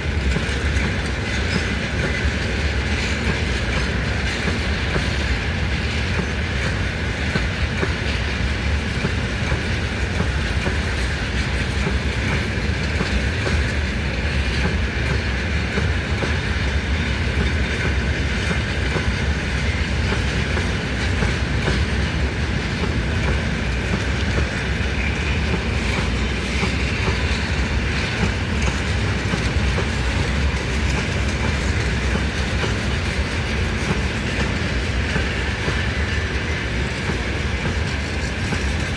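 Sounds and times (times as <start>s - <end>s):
freight train wagons rumbling: 0.0s - 38.9s
wheels clacking over rail joints: 0.0s - 38.9s.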